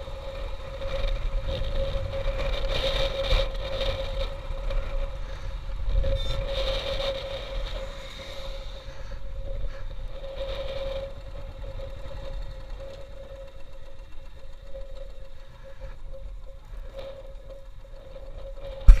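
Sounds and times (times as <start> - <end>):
motorcycle engine running: 0.0 - 19.0
steady whine: 0.0 - 19.0
wind on microphone: 0.0 - 19.0.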